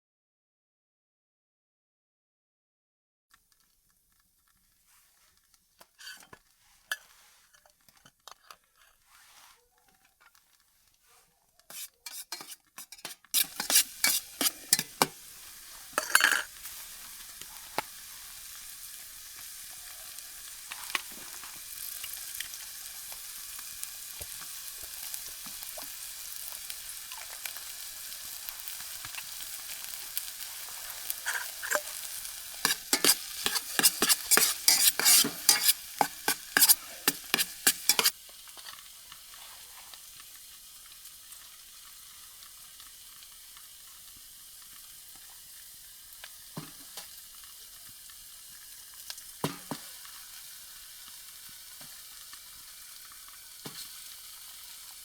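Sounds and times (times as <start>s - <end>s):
food sizzling in a hot pan: 3.3s - 55.0s.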